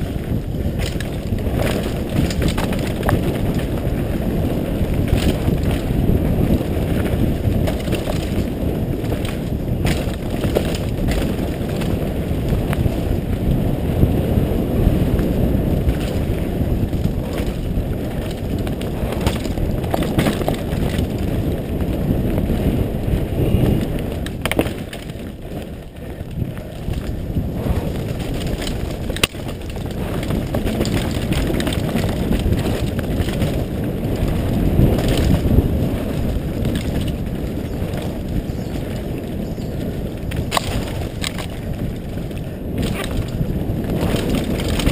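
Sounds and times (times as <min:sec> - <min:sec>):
bike clicks and rattles: 0:00.0 - 0:44.9
bike tyres rumbling on dirt: 0:00.0 - 0:44.9
wind on microphone: 0:00.0 - 0:44.9.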